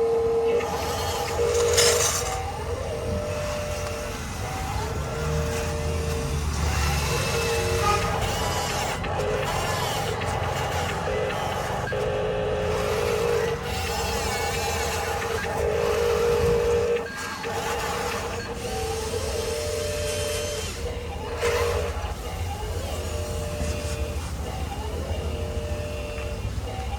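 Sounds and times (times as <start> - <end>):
loud electronic tones: 0.0 - 26.9
model truck motor rumble: 0.0 - 26.9.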